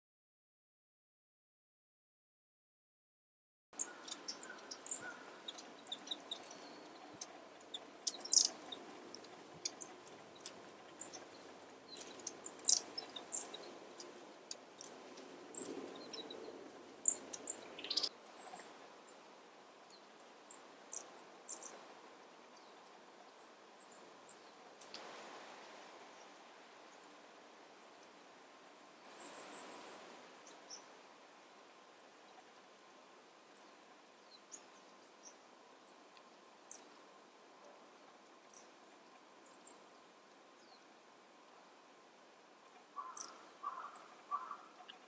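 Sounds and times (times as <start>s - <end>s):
small birds chirping: 3.8s - 28.3s, 28.9s - 31.0s, 31.9s - 41.9s, 42.5s - 45.0s
soft outdoor hiss: 3.8s - 45.0s.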